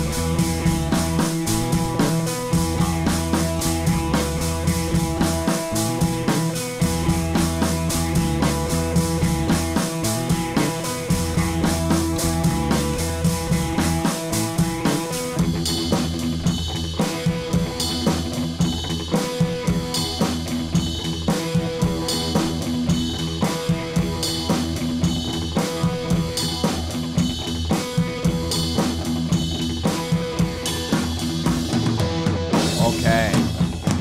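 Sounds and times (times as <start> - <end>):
background music with drum beat: 0.0 - 34.0.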